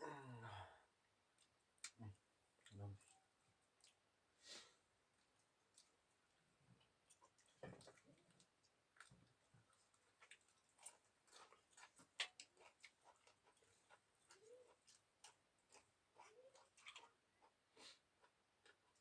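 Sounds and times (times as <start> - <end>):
faint clicks and taps of eating: 1.3 - 4.1, 5.1 - 19.0.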